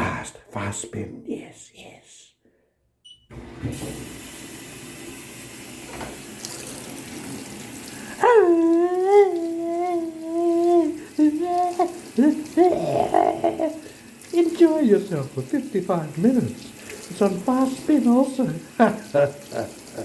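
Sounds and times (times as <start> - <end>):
washing machine filling with water: 3.3 - 20.0.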